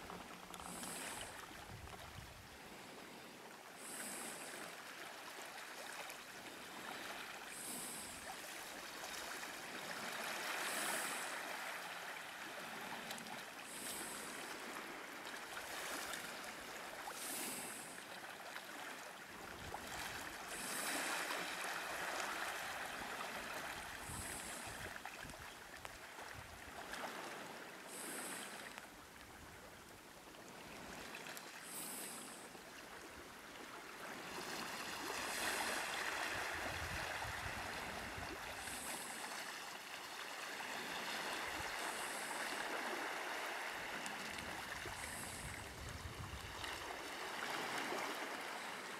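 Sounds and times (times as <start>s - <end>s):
waves sloshing through slush ice: 0.0s - 48.9s.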